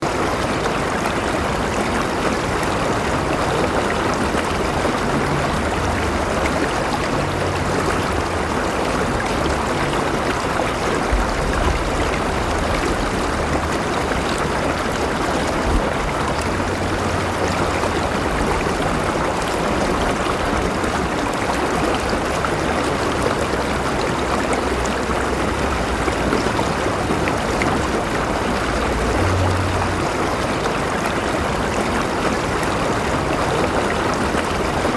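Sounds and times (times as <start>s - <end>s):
river water flowing over rocks: 0.0s - 34.9s.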